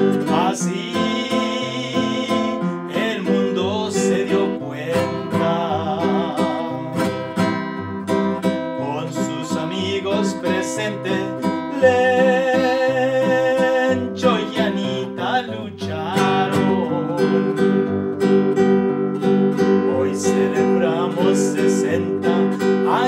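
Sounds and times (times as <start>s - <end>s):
man singing: 0.0s - 7.5s, 8.7s - 17.8s, 19.6s - 23.0s
classical guitar strummed: 0.0s - 23.0s.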